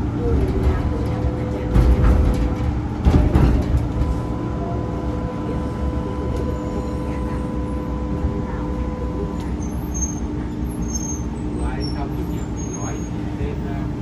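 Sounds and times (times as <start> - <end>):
tram running with whine: 0.0 - 14.0.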